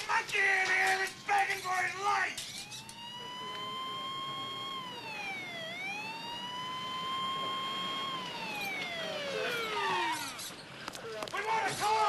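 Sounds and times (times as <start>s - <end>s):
police siren wailing: 0.0s - 12.0s.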